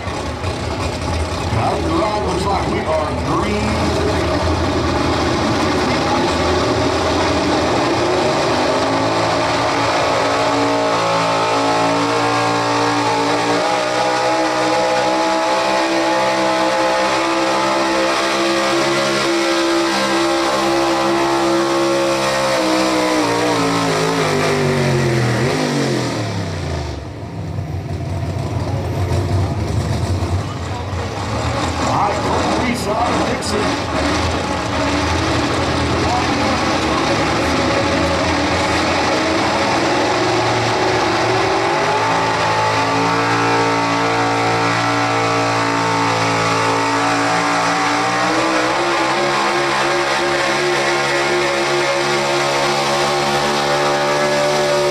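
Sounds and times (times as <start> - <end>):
truck engine at full throttle: 0.0 - 54.9.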